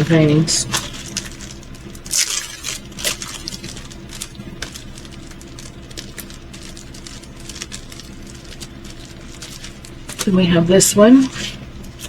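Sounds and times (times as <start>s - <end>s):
steady low hum: 0.0s - 12.0s
plastic packaging clicks and crinkles: 0.6s - 10.4s.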